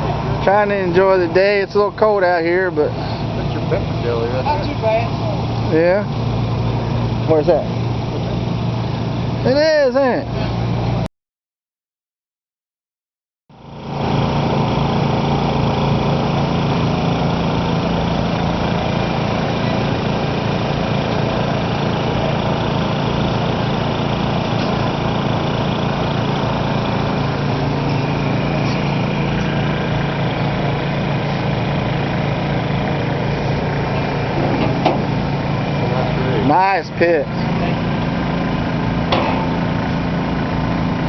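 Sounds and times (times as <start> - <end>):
small engine running: 0.0 - 11.0, 13.6 - 41.0.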